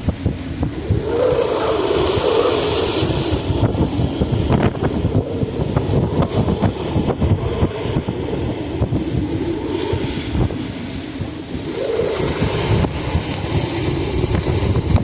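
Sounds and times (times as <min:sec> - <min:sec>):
wind buffeting microphone: 0:00.0 - 0:15.0
wind howling: 0:00.0 - 0:15.0
wind roaring: 0:00.0 - 0:15.0.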